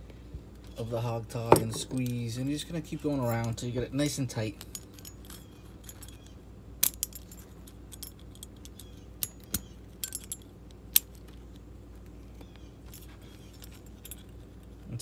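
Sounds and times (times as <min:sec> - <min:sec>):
metallic clicks and jingles: 0:01.5 - 0:11.6, 0:12.5 - 0:15.0.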